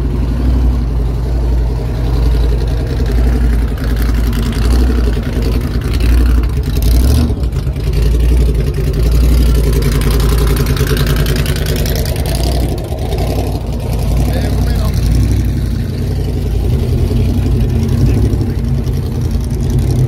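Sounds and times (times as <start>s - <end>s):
car engine running loudly: 0.0s - 20.0s.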